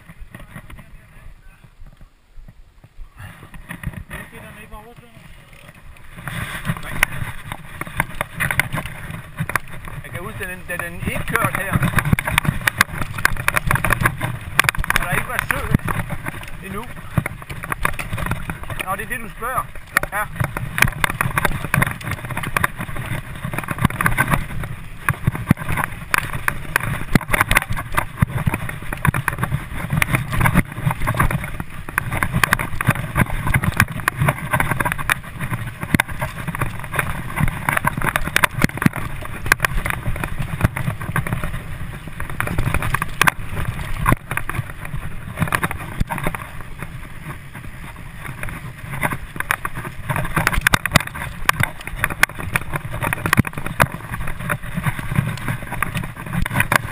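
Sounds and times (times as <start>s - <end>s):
bike rattling and knocking: 0.0s - 2.1s, 3.2s - 56.9s
bike tyres rumbling on dirt: 0.0s - 56.9s
wind on microphone: 0.0s - 56.9s.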